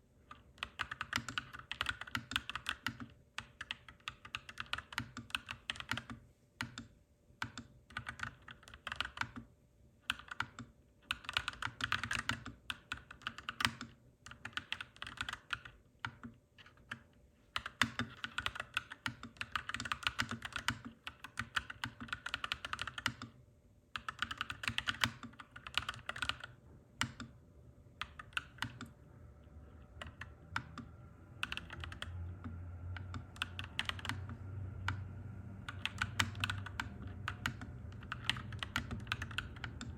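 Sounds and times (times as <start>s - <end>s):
mechanical keyboard typing: 0.3s - 23.4s, 24.0s - 27.4s, 28.0s - 39.9s.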